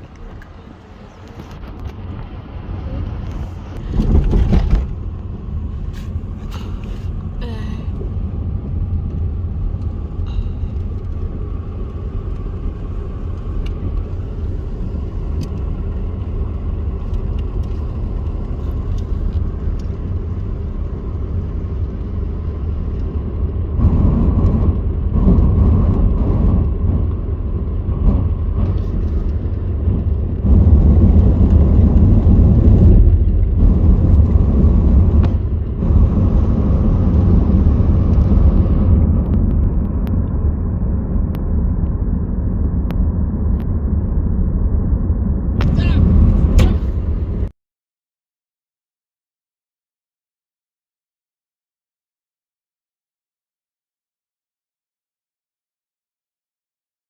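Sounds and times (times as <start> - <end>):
road and wind noise: 0.0 - 47.5
vehicle rumble from on board: 0.0 - 47.6.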